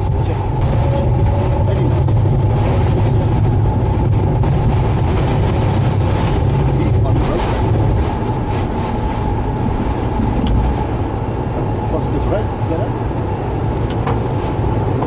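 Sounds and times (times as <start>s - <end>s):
jet engines at takeoff power: 0.0s - 15.0s
runway rumble: 0.0s - 15.0s.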